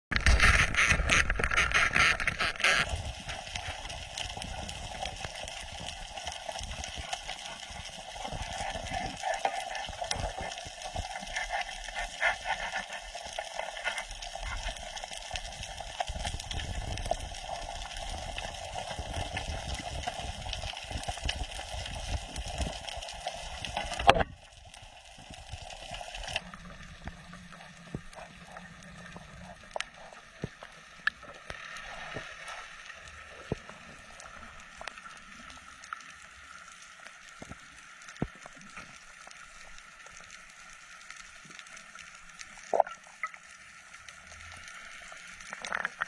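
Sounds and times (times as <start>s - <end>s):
rushing water: 0.1s - 46.0s.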